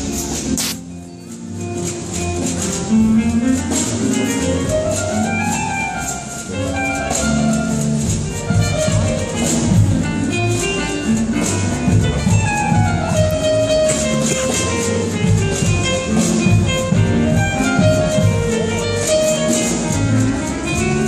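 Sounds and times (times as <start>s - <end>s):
symphony orchestra playing: 0.0s - 21.0s.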